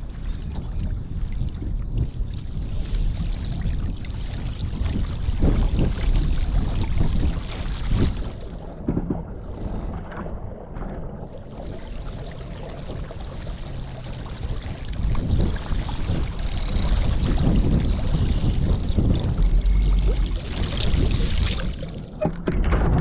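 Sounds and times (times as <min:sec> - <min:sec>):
wind buffeting microphone: 0:00.0 - 0:23.0
rushing water: 0:02.2 - 0:22.6.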